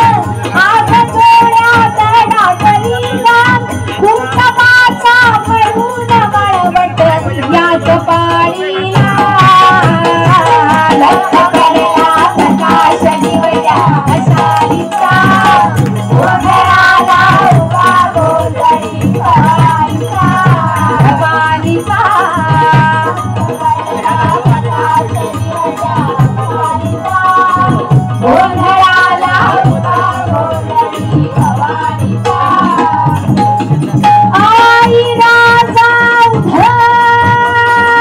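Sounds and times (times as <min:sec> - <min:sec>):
drum beats: 0:00.0 - 0:38.0
woman singing: 0:00.0 - 0:38.0.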